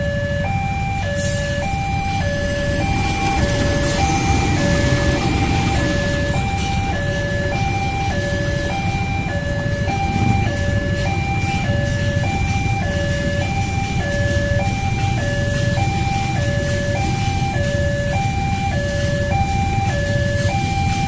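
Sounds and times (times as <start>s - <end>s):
two-tone crossing alarm chime: 0.0s - 21.0s
train rumbling past: 1.1s - 21.0s.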